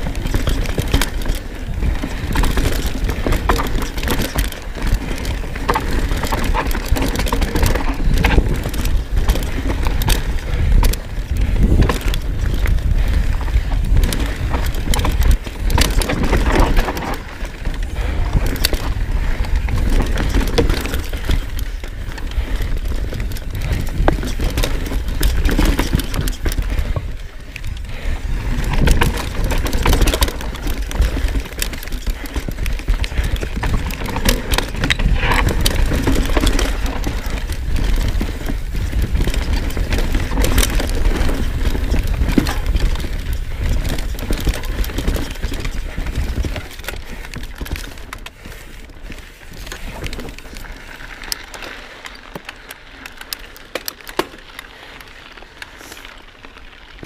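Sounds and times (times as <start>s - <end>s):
bike rattling over bumps: 0.0s - 57.0s
bike tyres rolling over dirt: 0.0s - 57.0s.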